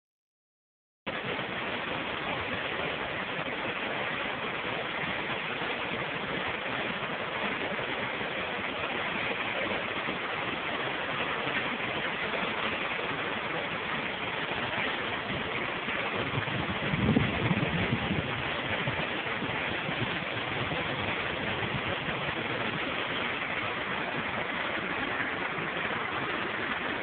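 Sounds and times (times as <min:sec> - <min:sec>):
river rushing over rapids: 0:01.1 - 0:27.0.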